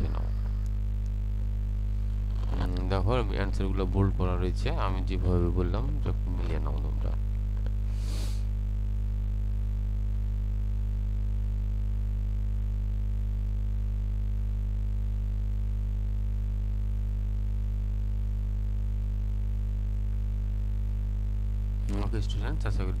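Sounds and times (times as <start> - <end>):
low hum with faint buzz: 0.0 - 23.0.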